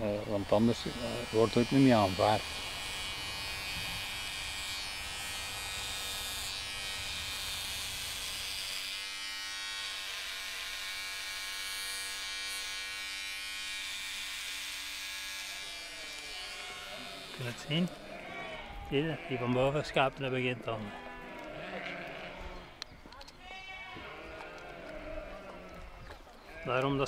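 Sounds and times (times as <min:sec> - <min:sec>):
electric clippers buzzing: 0:00.0 - 0:22.9, 0:23.7 - 0:27.0.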